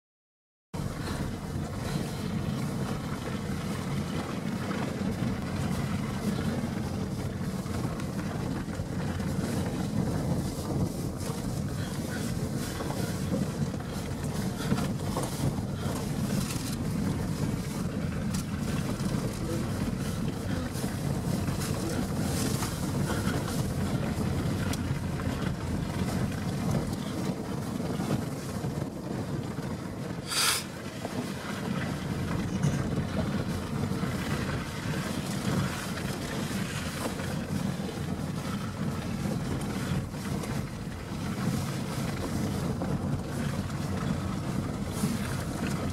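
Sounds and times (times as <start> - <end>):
vehicle engine rumble from cabin: 0.8 - 45.9.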